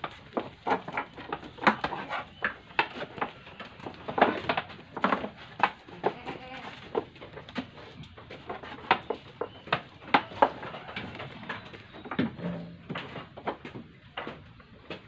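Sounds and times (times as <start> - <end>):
hooves and feet on wooden planks: 0.0 - 15.0.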